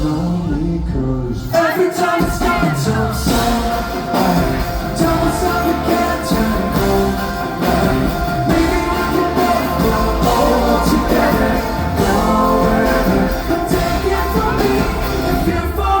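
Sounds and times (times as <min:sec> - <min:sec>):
drums: 0:00.0 - 0:16.0
person singing: 0:00.0 - 0:16.0
live pop-rock band playing: 0:01.5 - 0:16.0.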